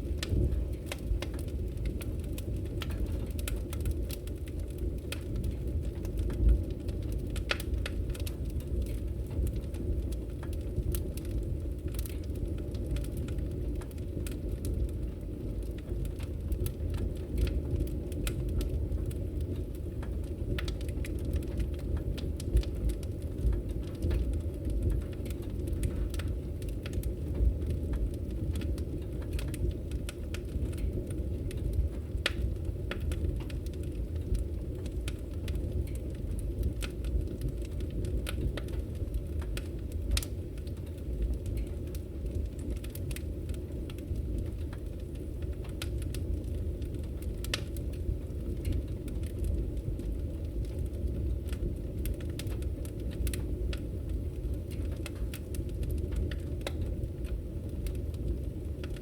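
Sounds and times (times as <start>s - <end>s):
burning wood crackling: 0.0s - 59.0s
low rumble of flames: 0.0s - 59.0s.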